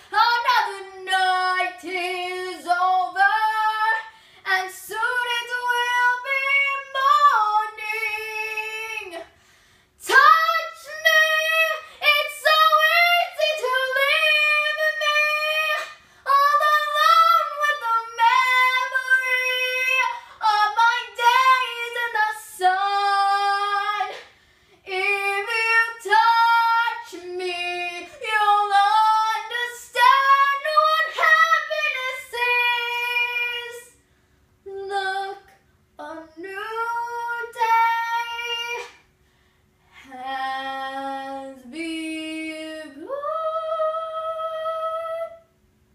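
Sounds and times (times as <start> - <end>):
woman singing unaccompanied: 0.0 - 9.4, 10.0 - 34.0, 34.7 - 39.0, 40.0 - 45.5.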